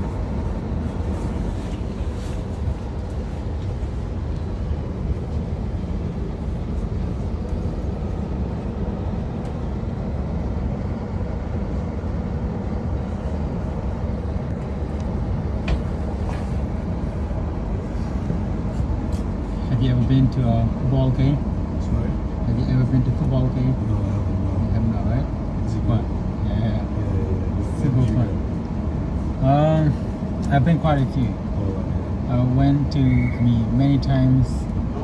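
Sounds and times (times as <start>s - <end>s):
passenger train rumbling: 0.0s - 35.0s.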